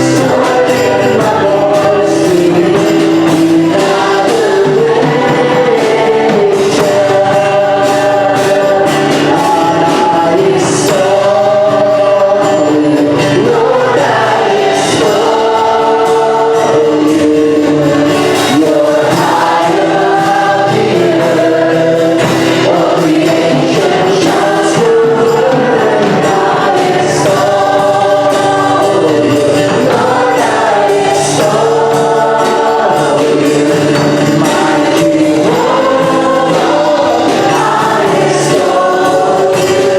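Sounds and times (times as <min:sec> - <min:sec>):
choir singing worship song: 0:00.0 - 0:39.9
musical accompaniment: 0:00.0 - 0:39.9.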